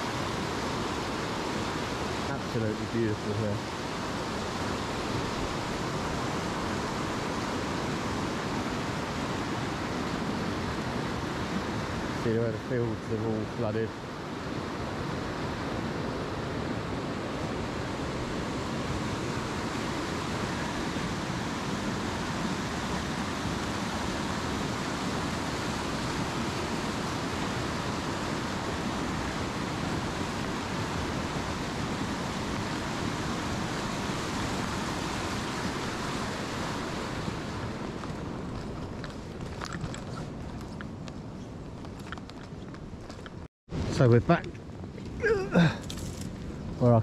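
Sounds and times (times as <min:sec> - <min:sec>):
steady rushing noise: 0:00.0 - 0:39.5.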